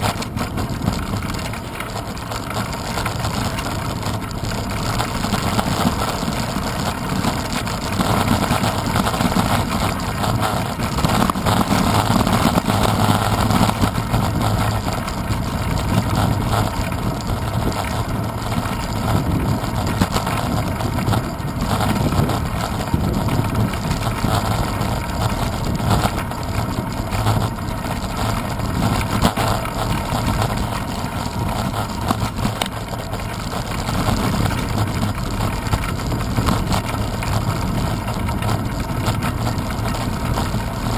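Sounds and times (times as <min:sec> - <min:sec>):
bike rattling: 0:00.0 - 0:40.9
tyres rumbling over paving stones: 0:00.0 - 0:40.9
wind rush: 0:02.7 - 0:40.9.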